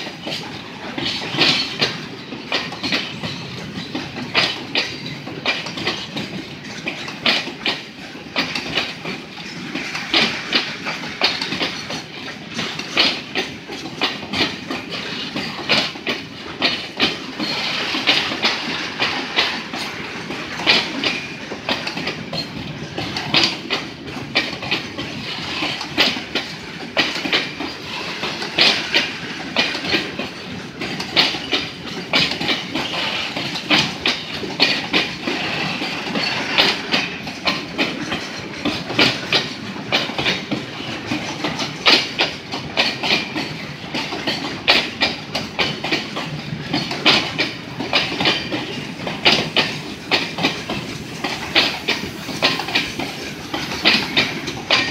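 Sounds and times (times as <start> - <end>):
sharp metallic clanks: 0.0 - 54.9
train wheels clattering over rail joints: 0.0 - 54.9.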